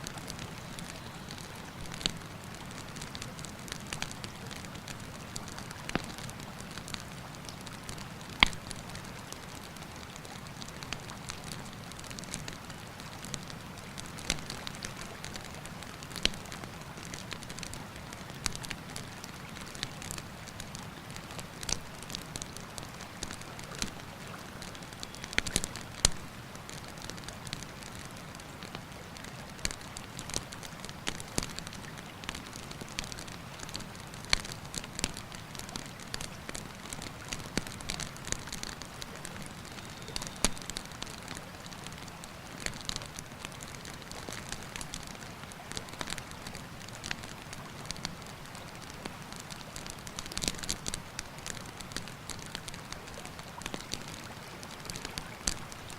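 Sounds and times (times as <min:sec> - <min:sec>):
campfire crackling and popping: 0:00.0 - 0:55.9
river water flowing: 0:00.0 - 0:55.9.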